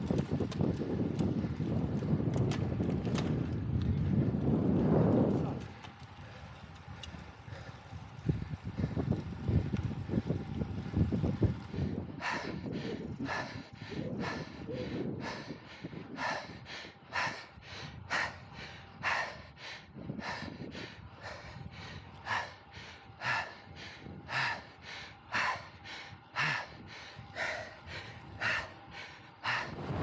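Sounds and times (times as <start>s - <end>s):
wind noise on microphone: 0.0s - 30.0s
heavy laboured breathing: 5.6s - 30.0s.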